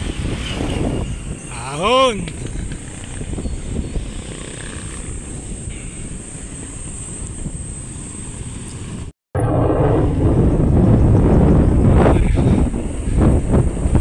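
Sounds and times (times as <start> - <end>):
vehicle engine rumble: 0.0 - 14.0
wind noise: 0.0 - 14.0.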